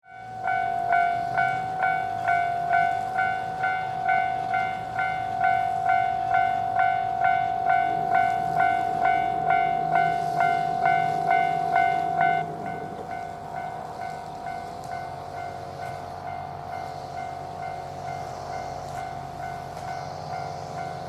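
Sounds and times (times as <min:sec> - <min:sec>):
level-crossing warning bell: 0:00.0 - 0:21.0.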